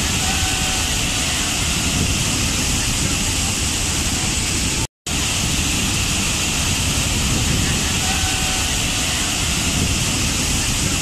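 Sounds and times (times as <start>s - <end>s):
waterfall pouring onto rocks: 0.0s - 11.0s.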